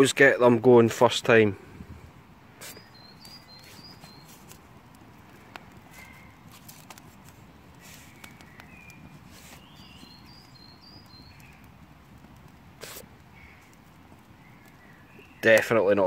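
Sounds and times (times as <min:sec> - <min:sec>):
small birds chirping: 0:01.4 - 0:16.0
twigs clicking and snapping: 0:02.6 - 0:16.0.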